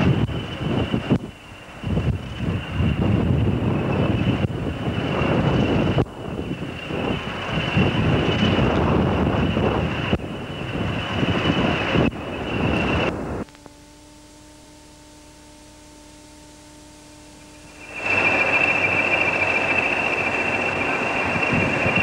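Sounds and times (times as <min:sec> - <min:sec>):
diesel locomotives running: 0:00.0 - 0:22.0
high whine: 0:00.0 - 0:22.0
quiet steady hum: 0:00.0 - 0:22.0.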